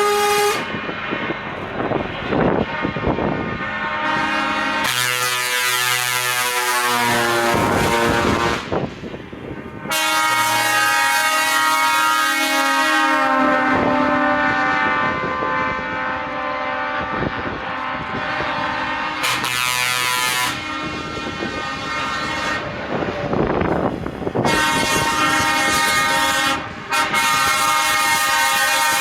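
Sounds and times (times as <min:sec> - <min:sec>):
truck air horn blasts: 0:00.0 - 0:00.9, 0:02.3 - 0:23.4, 0:24.3 - 0:29.0.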